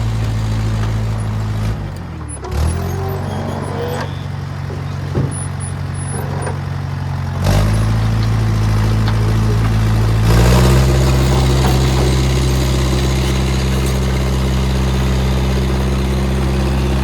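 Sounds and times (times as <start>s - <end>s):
crawler loader engine running: 0.0s - 17.0s.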